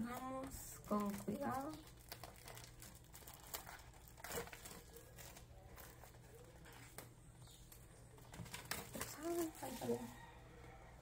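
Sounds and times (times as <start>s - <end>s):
plastic sleeve crinkling: 0.0s - 10.1s.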